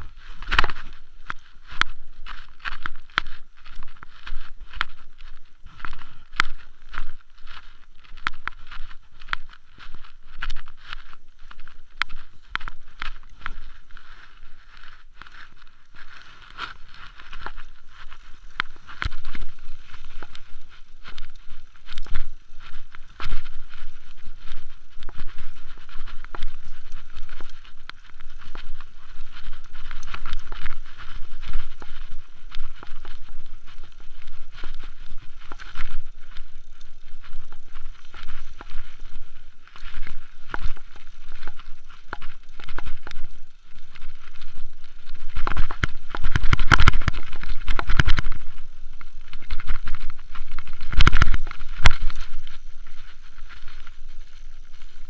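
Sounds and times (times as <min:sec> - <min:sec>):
bike rattling: 0:00.0 - 0:55.0
bike tyres rumbling: 0:00.0 - 0:55.0
wind noise on microphone: 0:00.0 - 0:55.0.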